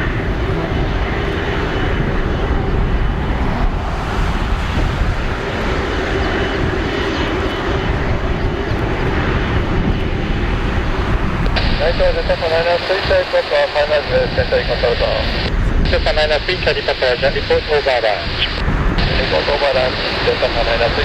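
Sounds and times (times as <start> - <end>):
jet engines running at low power: 0.0 - 21.0.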